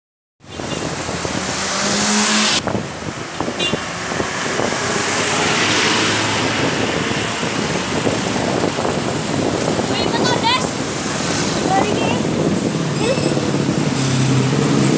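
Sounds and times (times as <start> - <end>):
engine rumble and road noise: 0.4 - 14.9
vehicles going by: 0.4 - 14.9.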